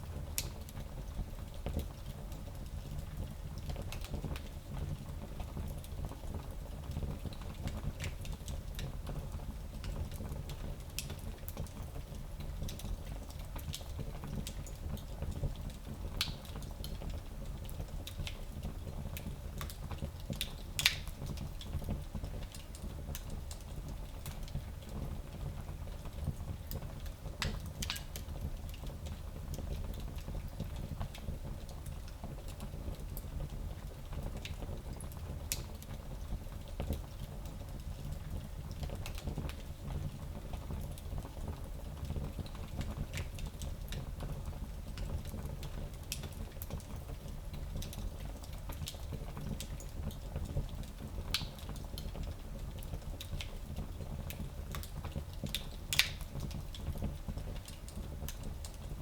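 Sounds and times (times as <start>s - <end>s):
wood fire crackling and popping: 0.1s - 0.9s, 5.4s - 59.0s.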